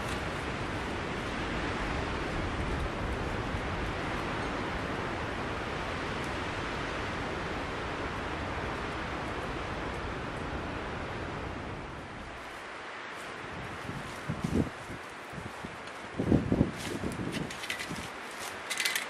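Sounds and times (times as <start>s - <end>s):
wind rushing through trees: 0.0s - 19.0s.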